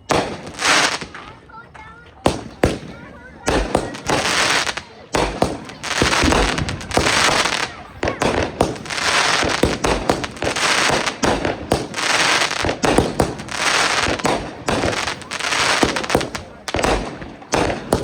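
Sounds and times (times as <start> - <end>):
fireworks bangs and pops: 0.0 - 18.0
fireworks crackling: 0.0 - 18.0.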